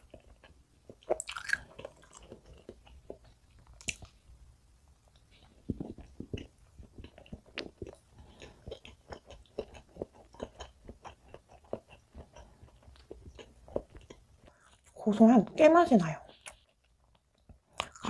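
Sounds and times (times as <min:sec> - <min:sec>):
close-miked chewing: 0:00.0 - 0:04.2, 0:05.0 - 0:15.1, 0:16.2 - 0:18.0.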